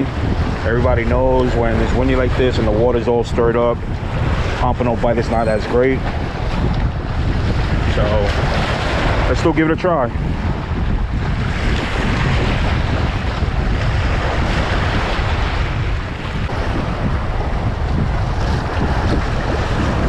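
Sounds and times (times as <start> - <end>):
strong wind buffeting microphone: 0.0 - 20.0
waves washing on shore: 0.0 - 20.0.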